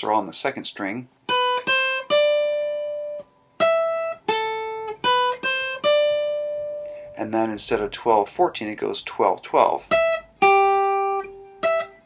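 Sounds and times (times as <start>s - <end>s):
acoustic guitar picked melody: 0.8s - 12.0s.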